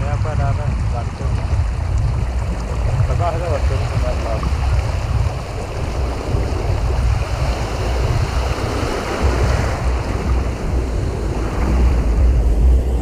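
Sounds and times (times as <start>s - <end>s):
surf washing in: 0.0s - 13.0s
waves breaking: 0.0s - 13.0s
wind buffeting microphone: 0.0s - 13.0s.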